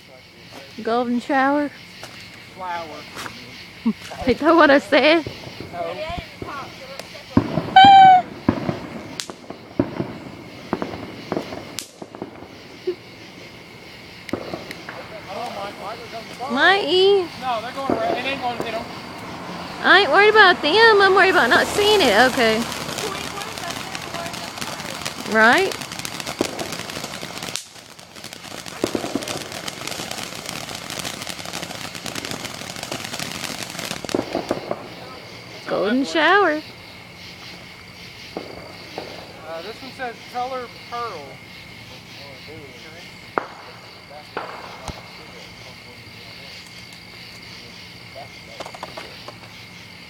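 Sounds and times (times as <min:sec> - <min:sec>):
firework popping and crackling: 0:00.6 - 0:41.4, 0:42.2 - 0:50.0
sharp firework cracks: 0:02.0 - 0:41.4, 0:42.5 - 0:47.7.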